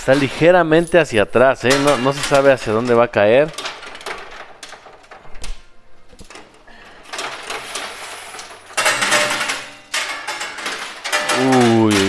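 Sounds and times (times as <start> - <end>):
coins clattering: 0.0 - 5.4, 6.2 - 12.0
pusher mechanism rattling: 0.0 - 12.0.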